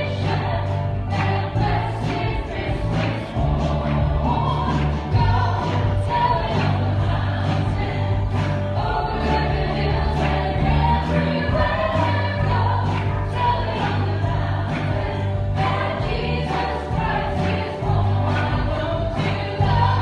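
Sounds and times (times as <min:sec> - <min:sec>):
worship song with band: 0:00.0 - 0:20.0.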